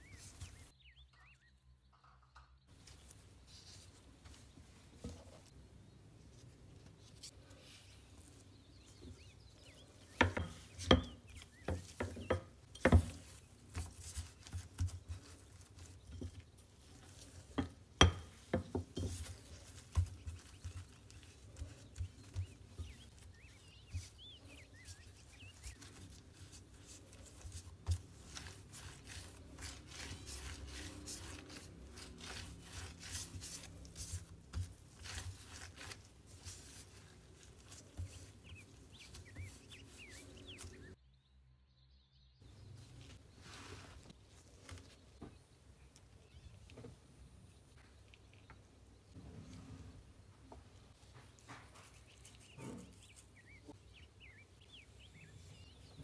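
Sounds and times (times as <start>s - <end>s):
hands rubbing and patting dough: 0.0s - 1.0s, 2.7s - 41.0s, 42.4s - 56.0s.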